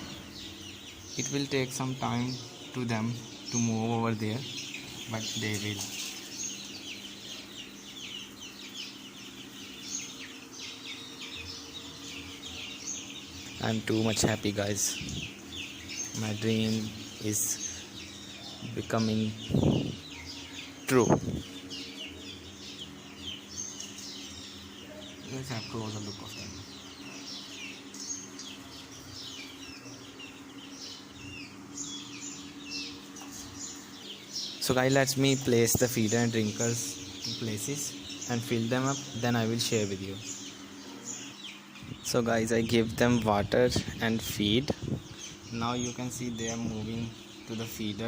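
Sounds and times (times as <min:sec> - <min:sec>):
chicks peeping: 0:00.0 - 0:48.0
steady low hum: 0:00.0 - 0:48.0.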